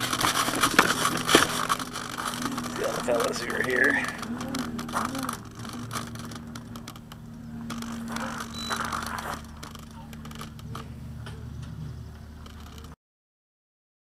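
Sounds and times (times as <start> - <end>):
low hum: 0.0 - 13.0
model plane handling rattles: 0.0 - 13.0.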